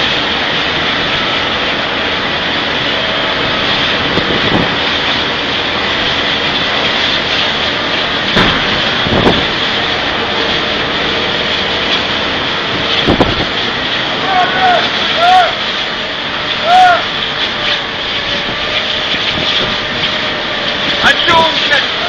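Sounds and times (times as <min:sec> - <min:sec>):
storm wind blowing hard: 0:00.0 - 0:22.0
wind gusts hitting microphone: 0:00.0 - 0:22.0.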